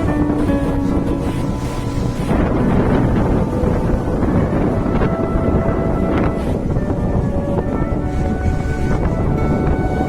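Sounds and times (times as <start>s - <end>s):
background music long note: 0.0s - 10.0s
sea surf rushing: 0.0s - 10.0s
wind on microphone: 0.0s - 10.0s.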